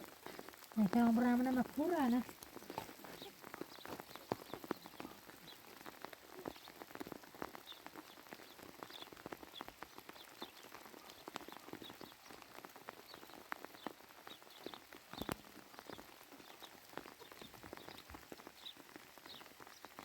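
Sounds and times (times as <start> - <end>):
rain drops tapping: 0.0 - 20.0.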